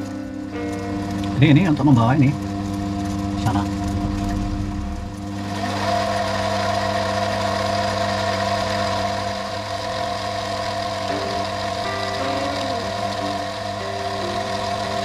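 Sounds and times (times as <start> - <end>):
lathe motor hum and whine: 0.0 - 15.0.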